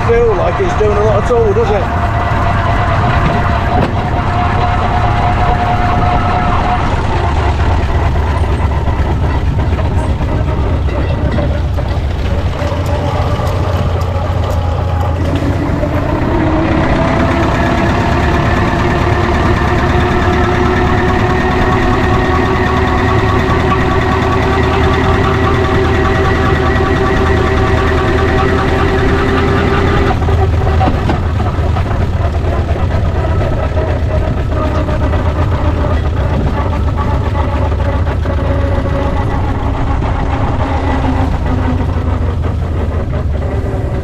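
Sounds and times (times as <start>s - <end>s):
model steam engine rumbling: 0.0s - 44.0s
steady humming tone: 0.0s - 44.0s.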